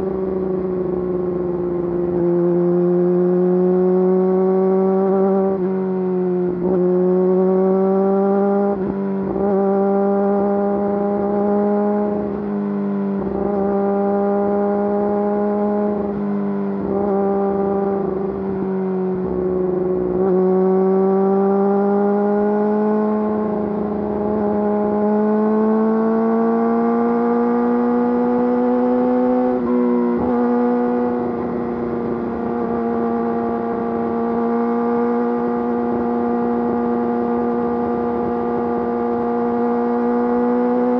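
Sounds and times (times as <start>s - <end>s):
motorcycle engine revving: 6.5s - 40.9s.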